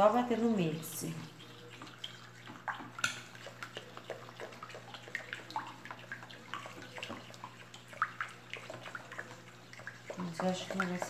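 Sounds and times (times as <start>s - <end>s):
spoon stirring liquid sloshing: 0.0s - 11.0s.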